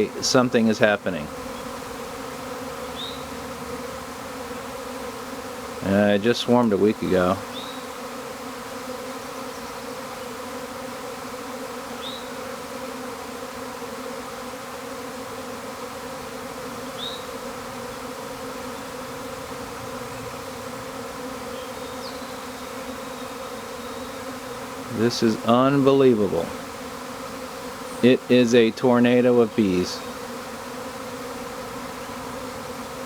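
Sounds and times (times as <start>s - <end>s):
honeybees humming: 0.0s - 33.0s.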